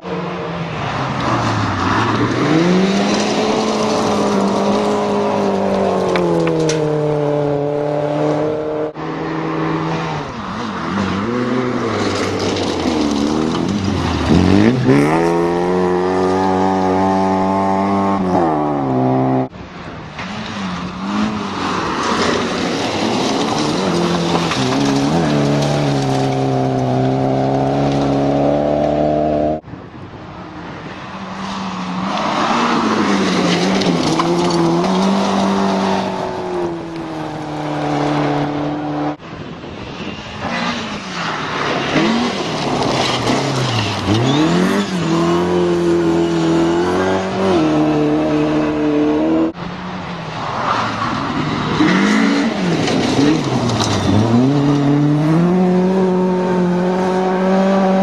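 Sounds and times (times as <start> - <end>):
rally car engines revving: 0.0 - 29.7, 30.9 - 58.0.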